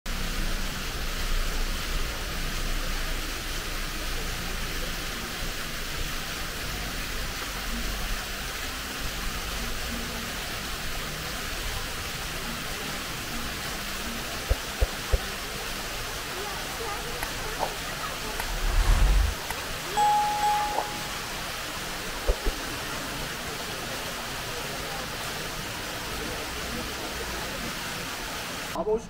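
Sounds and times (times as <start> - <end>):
steady rushing outdoor noise: 0.1 - 28.8.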